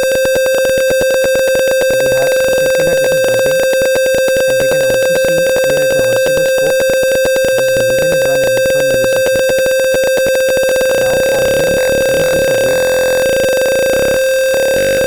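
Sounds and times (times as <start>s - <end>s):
smoke alarm buzzer tone: 0.0s - 15.0s.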